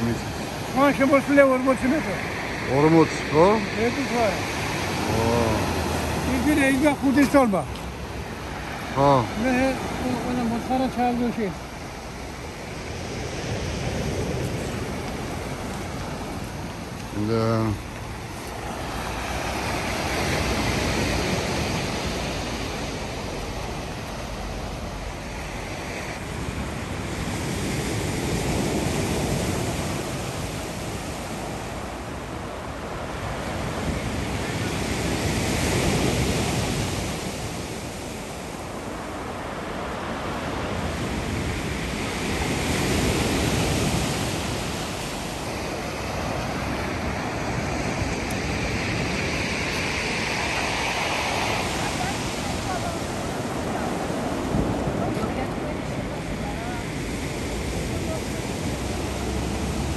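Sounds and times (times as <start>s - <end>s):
surf washing up pebble beach: 0.0s - 59.9s.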